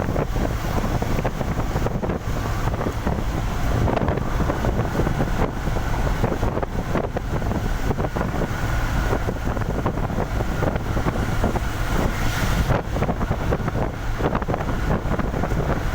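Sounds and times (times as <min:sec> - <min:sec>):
vehicle rumble on wet road: 0:00.0 - 0:15.9
wind buffeting on microphone: 0:00.0 - 0:15.9.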